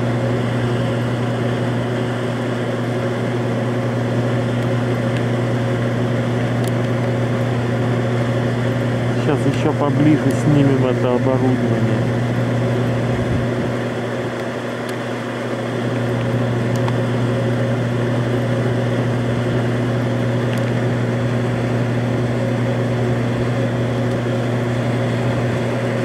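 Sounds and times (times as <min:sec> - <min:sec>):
fan noise: 0:00.0 - 0:26.0
hvac units humming: 0:00.0 - 0:26.0.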